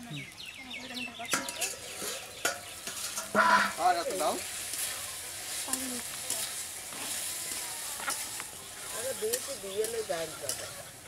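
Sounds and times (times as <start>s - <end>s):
vegetables sizzling in a wok: 1.1s - 11.0s
metal spatula scraping a pan: 1.3s - 11.0s.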